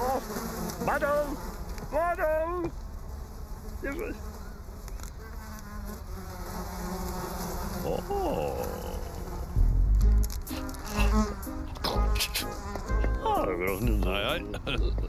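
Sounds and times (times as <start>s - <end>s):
flies buzzing: 0.0s - 15.0s.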